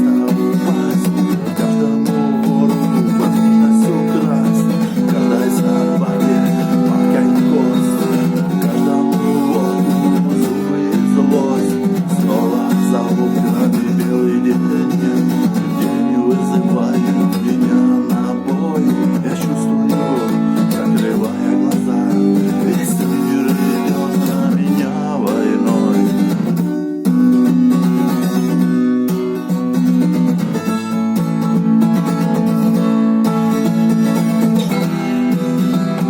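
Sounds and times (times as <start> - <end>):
acoustic guitar music: 0.0 - 36.0.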